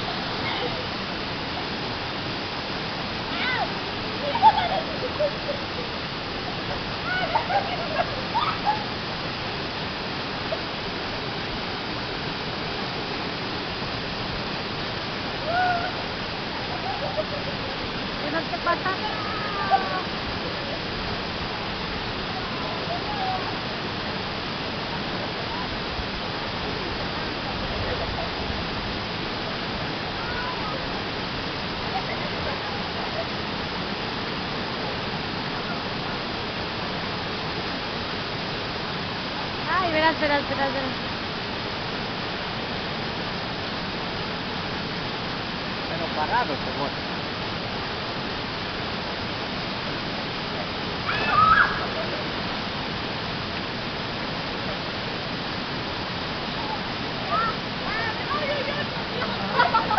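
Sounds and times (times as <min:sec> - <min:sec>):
waterfall rushing into pool: 0:00.0 - 0:59.9.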